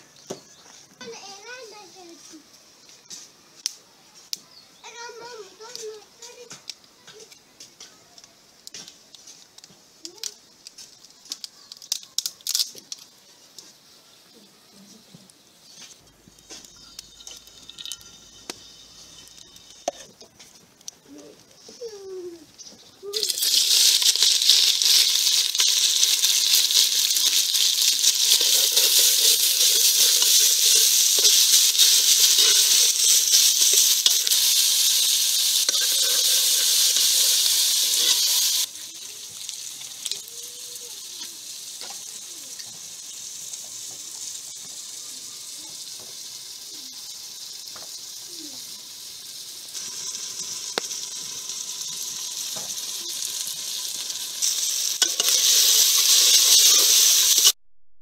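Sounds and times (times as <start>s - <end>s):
food sizzling in hot oil: 8.6s - 14.7s, 15.4s - 57.6s.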